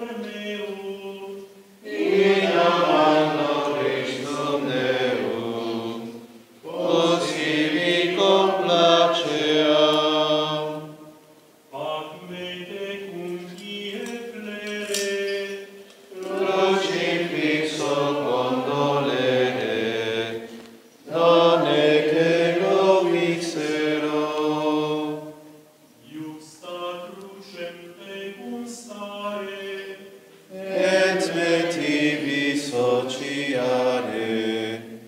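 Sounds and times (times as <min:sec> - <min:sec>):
men singing plainchant: 0:00.0 - 0:11.0, 0:11.7 - 0:35.0.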